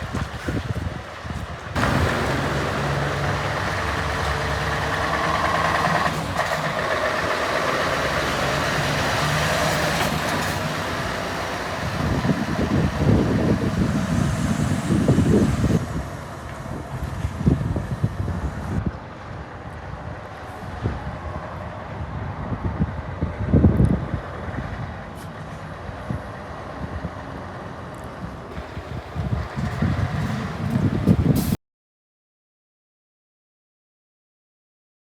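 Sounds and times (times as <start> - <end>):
heavy truck engine running: 0.0 - 31.6.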